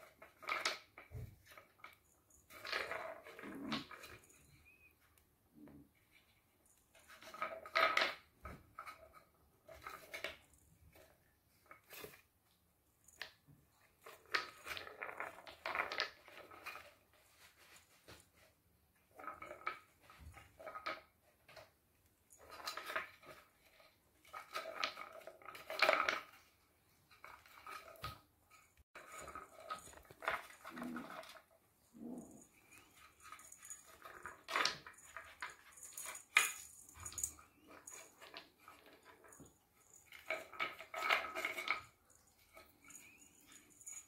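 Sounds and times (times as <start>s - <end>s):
wooden balls rolling and rattling: 0.0s - 4.8s, 5.5s - 12.2s, 13.0s - 44.0s.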